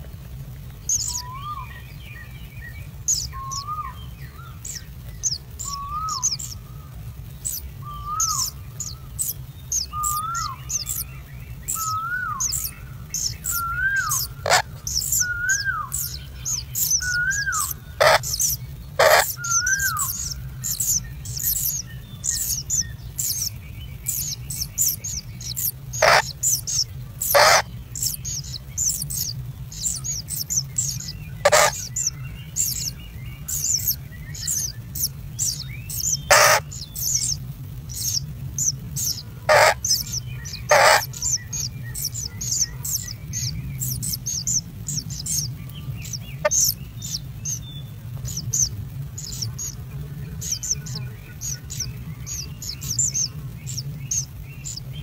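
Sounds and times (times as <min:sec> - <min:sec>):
nestlings chirping: 0:00.0 - 0:55.0
steady low hum: 0:00.0 - 0:55.0
sharp bird calls: 0:00.8 - 0:55.0.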